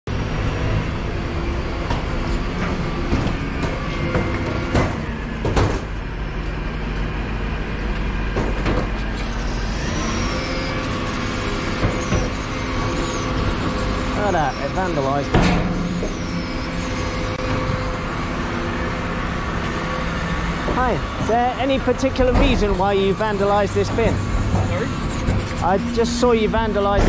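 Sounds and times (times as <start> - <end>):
lorry engine running: 0.1 - 27.0.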